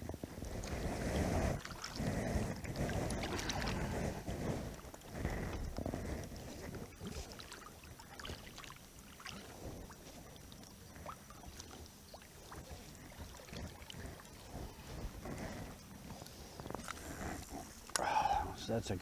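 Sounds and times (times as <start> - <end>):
waves lapping against kayak hull: 0.0 - 19.0.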